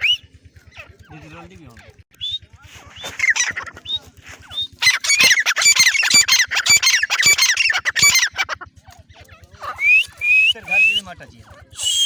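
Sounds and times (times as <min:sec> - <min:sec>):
francolin calling: 0:00.0 - 0:01.4, 0:02.1 - 0:12.0.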